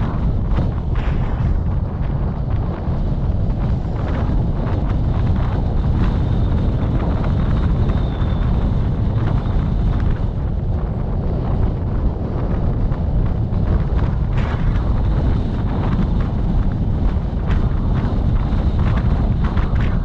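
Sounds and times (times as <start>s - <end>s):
road and engine noise: 0.0s - 20.0s
wind buffeting microphone: 0.0s - 20.0s.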